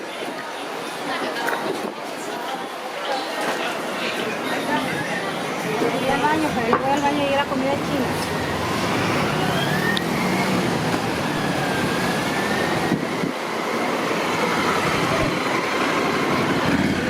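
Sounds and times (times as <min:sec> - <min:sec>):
street traffic: 0:02.8 - 0:17.0.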